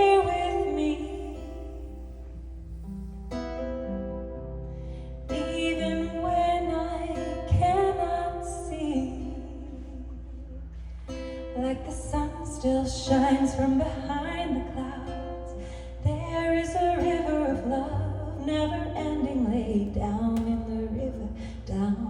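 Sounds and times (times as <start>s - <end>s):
woman singing: 0.0s - 2.2s, 5.3s - 10.4s, 11.4s - 22.0s
plucked acoustic guitar: 0.0s - 22.0s.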